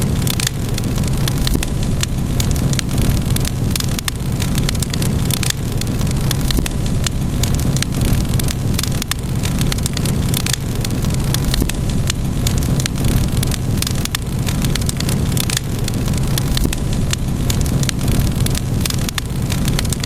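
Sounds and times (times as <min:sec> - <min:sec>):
low hiss of burning: 0:00.0 - 0:20.0
wood fire crackling: 0:00.0 - 0:20.0.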